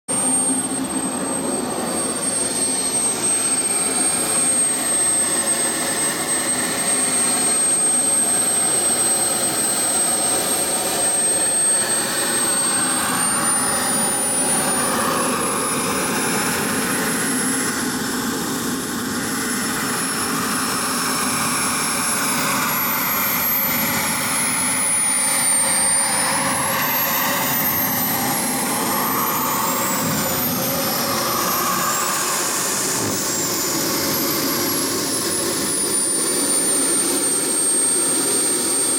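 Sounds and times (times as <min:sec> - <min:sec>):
jet turbine roaring with whine: 0:00.1 - 0:38.9.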